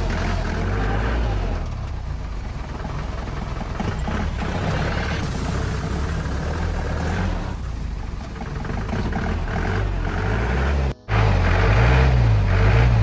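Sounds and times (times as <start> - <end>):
off-road engine revving in mud: 0.0 - 2.1, 3.7 - 7.7, 8.4 - 13.0.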